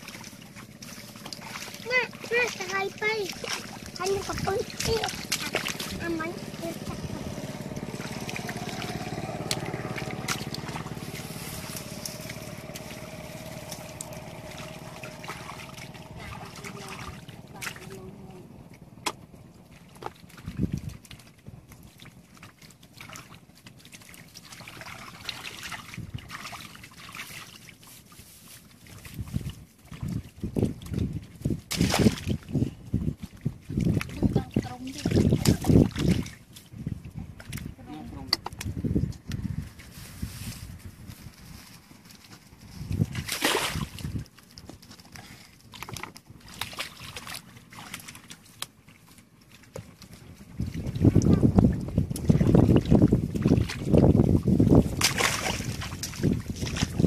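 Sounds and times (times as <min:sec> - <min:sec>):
hands splashing in muddy water: 0:00.0 - 0:18.4, 0:19.0 - 0:57.0
mud squelching: 0:00.0 - 0:57.0.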